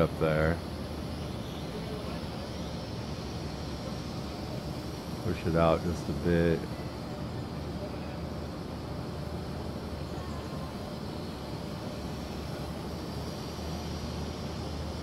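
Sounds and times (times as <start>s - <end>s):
outdoor background rumble and hiss: 0.0s - 15.0s.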